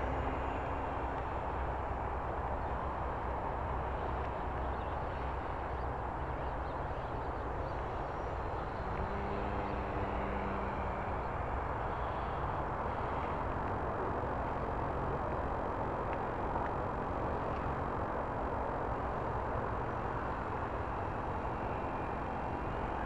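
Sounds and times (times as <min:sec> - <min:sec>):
model plane motor humming: 0:00.0 - 0:14.8, 0:18.5 - 0:23.0.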